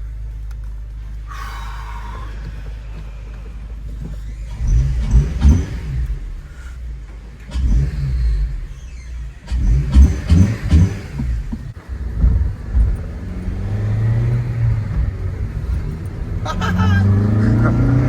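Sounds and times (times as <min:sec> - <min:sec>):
car engine accelerating: 0:00.0 - 0:18.0
road noise inside car: 0:00.0 - 0:18.0.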